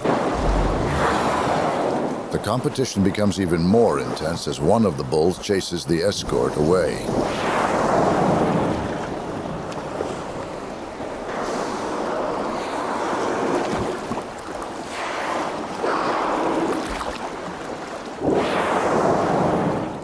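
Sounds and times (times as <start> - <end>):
sea water rushing and splashing: 0.0 - 20.0.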